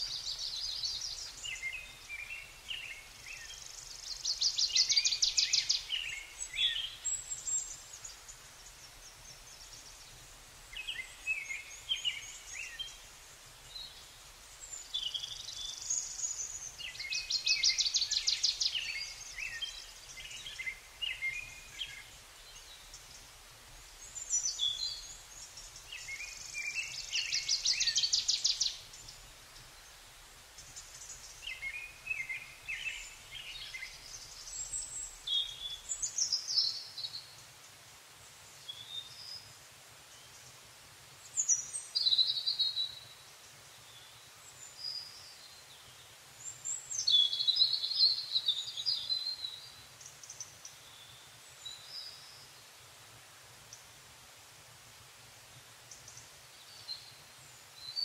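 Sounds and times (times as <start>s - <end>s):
songbirds chirping and whistling: 0.0s - 30.0s, 30.6s - 37.3s, 41.4s - 52.6s.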